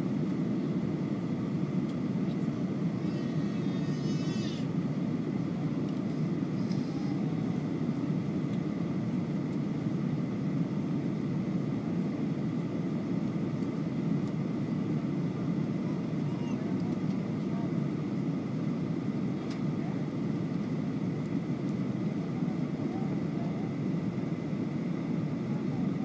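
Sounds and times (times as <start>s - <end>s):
airliner engines rumbling: 0.0s - 26.0s.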